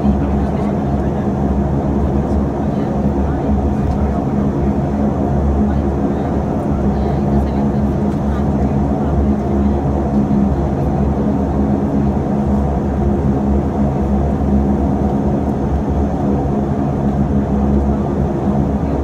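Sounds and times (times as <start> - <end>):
turboprop engine drone in cabin: 0.0 - 19.0.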